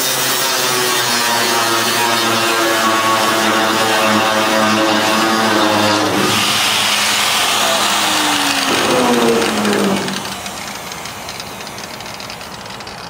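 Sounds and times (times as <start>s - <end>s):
angle grinder cutting steel: 0.0s - 13.0s.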